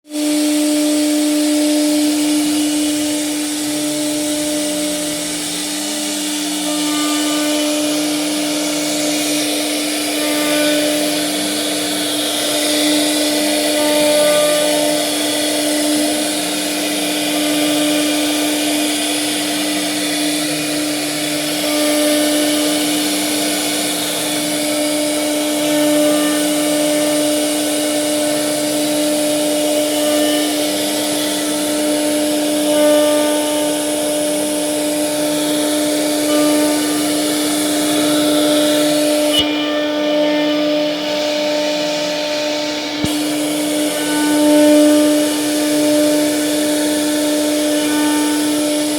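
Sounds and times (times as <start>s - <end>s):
router spindle whine: 0.0s - 48.9s
hiss of wood cutting: 0.1s - 48.9s.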